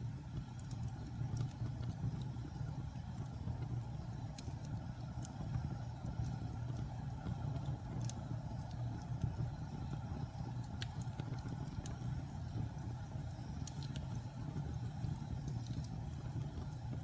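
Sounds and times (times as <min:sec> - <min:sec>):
flames rumbling: 0:00.0 - 0:17.0
wood crackling and popping: 0:00.3 - 0:17.0.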